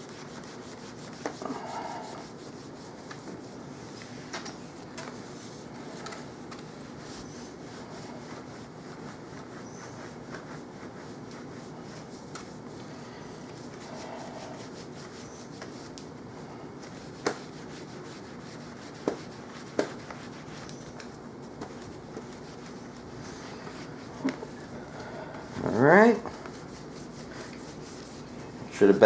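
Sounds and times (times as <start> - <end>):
cloth rubbing on screen: 0.0 - 24.9, 25.5 - 29.0.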